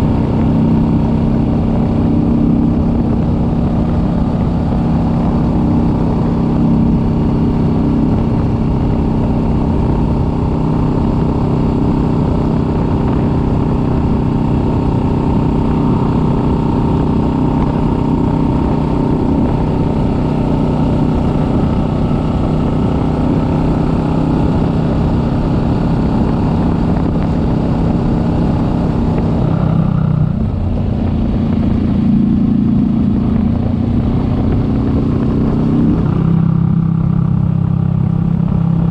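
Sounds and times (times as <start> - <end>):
motorcycle engine cruising: 0.0 - 38.9
road noise: 0.0 - 38.9
wind noise: 0.0 - 38.9.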